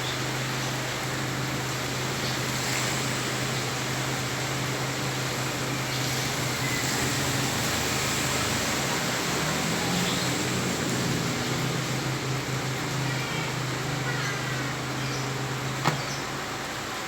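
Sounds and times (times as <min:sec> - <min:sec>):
heavy rain on standing water: 0:00.0 - 0:17.0.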